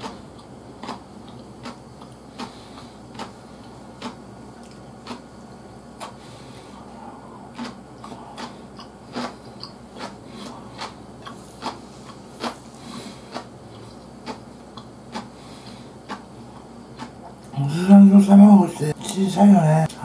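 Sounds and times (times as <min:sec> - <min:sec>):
man chewing and lip-smacking: 0:00.0 - 0:17.6.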